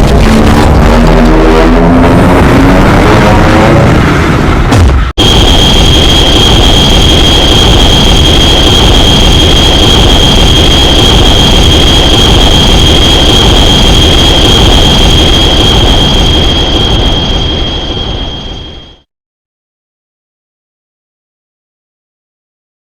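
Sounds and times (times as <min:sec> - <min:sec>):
distorted rush of noise: 0:00.0 - 0:19.0
piercing high whine: 0:00.0 - 0:19.1.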